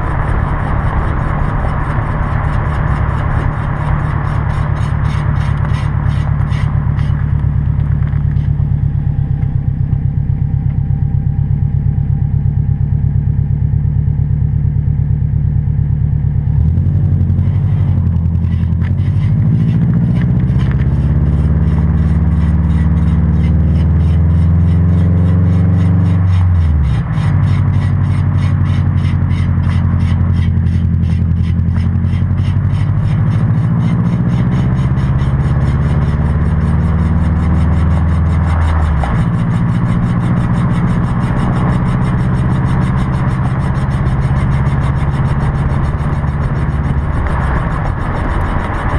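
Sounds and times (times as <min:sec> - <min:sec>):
wheel bearing grinding: 0:00.0 - 0:11.2, 0:16.6 - 0:48.9
car engine running: 0:00.0 - 0:48.9.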